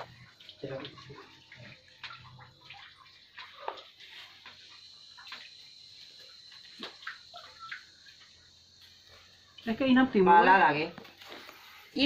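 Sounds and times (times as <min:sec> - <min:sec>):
water splashing and sloshing: 0:00.0 - 0:09.9.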